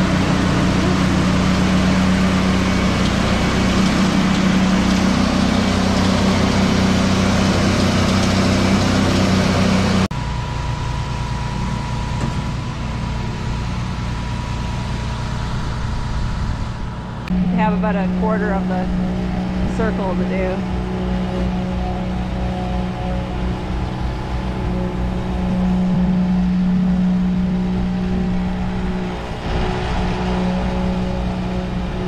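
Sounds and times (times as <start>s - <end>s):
power trowel engine running: 0.0s - 32.0s
pump truck engine drone: 0.0s - 32.0s.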